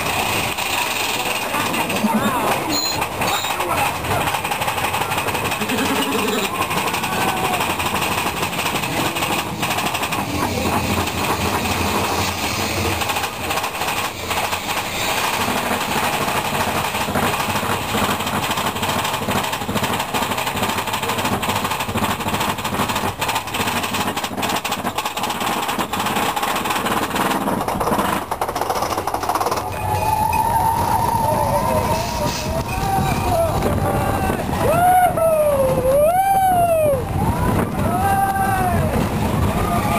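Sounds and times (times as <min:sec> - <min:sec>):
roller coaster lift chain clatter: 0:00.0 - 0:39.9
rumbling train: 0:00.0 - 0:39.9.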